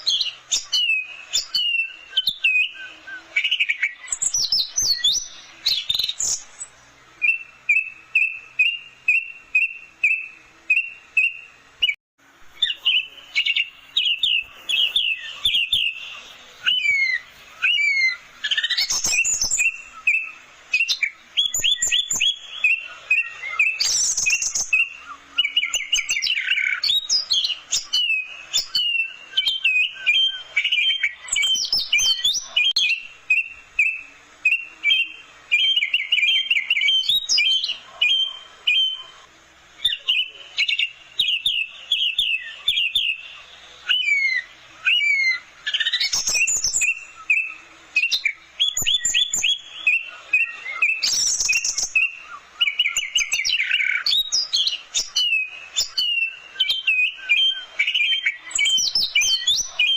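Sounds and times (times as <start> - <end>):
thrush singing whistles and chirps: 0.0 - 59.9.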